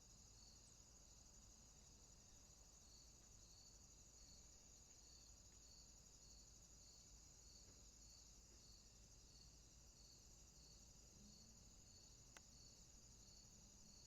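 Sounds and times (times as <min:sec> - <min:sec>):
soft insect chirp: 0:00.0 - 0:14.0.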